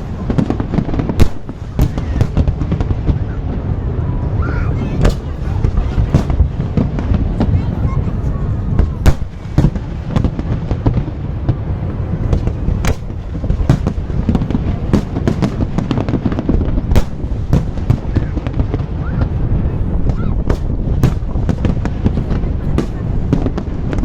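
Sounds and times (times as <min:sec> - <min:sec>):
fireworks bangs: 0:00.0 - 0:24.0
low rumble of fireworks bursts: 0:00.0 - 0:24.0.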